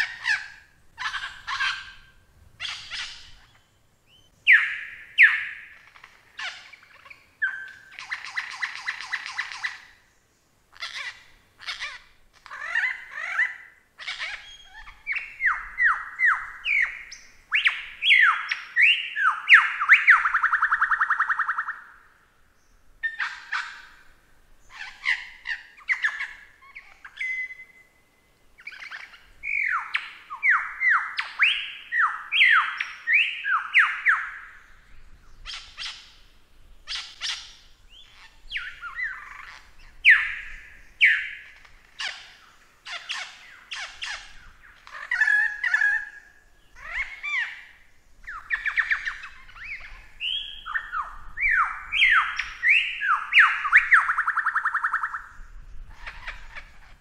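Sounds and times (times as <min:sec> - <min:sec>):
lyrebird singing: 0:00.0 - 0:28.0, 0:28.6 - 0:57.0.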